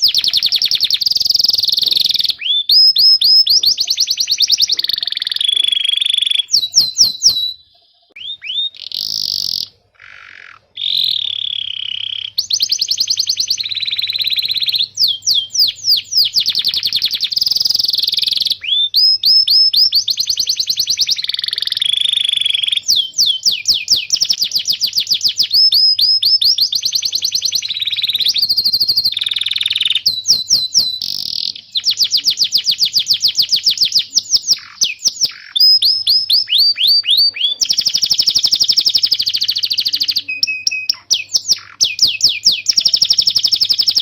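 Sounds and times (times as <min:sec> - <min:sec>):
canary singing: 0:00.0 - 0:44.0.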